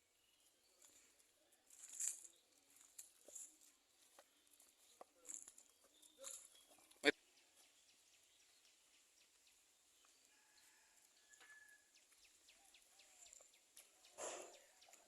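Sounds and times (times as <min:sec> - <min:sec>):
faint high chirps and ticks: 0:00.1 - 0:15.0.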